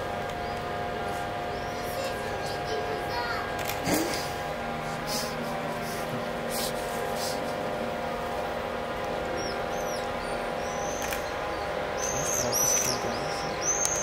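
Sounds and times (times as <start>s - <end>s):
birds chirping: 0.0s - 14.0s
diesel engine humming: 0.0s - 14.0s.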